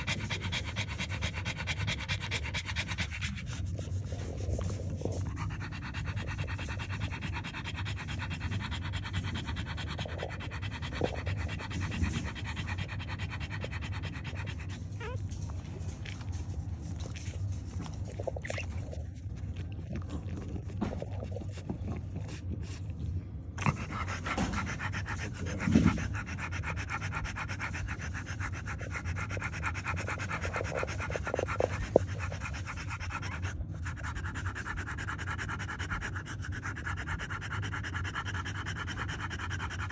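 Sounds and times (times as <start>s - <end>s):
steady low hum: 0.0s - 39.9s
puppy wet sucking and smacking: 2.4s - 35.4s.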